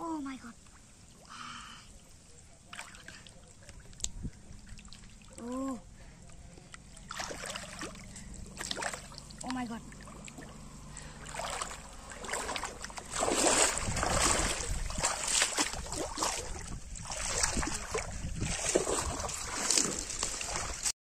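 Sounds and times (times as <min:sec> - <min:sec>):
water splashing while wading: 0:02.6 - 0:20.9.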